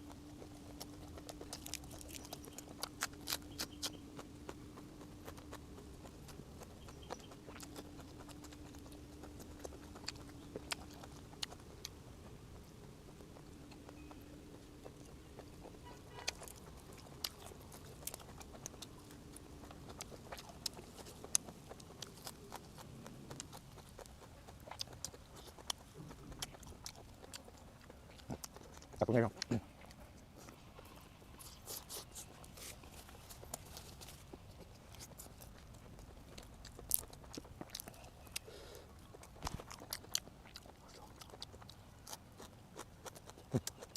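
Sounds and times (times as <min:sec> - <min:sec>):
chewing clicks and smacks: 0:00.0 - 0:43.9
faint steady hum: 0:00.0 - 0:43.9.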